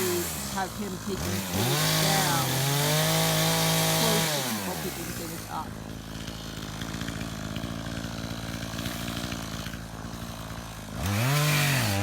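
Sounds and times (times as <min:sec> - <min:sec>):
chainsaw idling and revving: 0:00.0 - 0:12.0.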